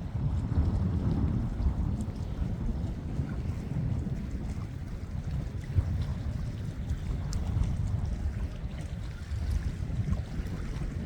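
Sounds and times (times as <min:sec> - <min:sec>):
sea: 0:00.0 - 0:11.0
wind buffeting microphone: 0:00.0 - 0:11.0.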